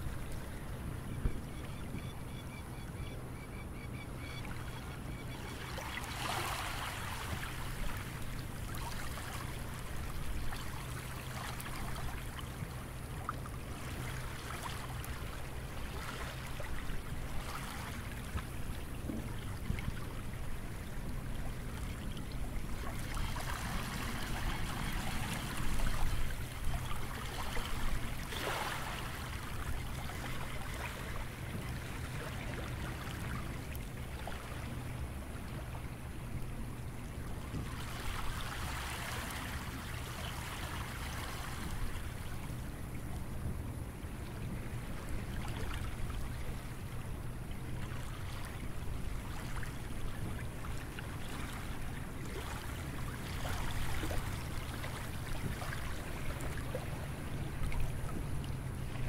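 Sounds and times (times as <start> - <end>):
small waves lapping on beach: 4.5 - 59.0
waves splashing: 5.6 - 20.8, 21.6 - 36.4, 37.2 - 59.0.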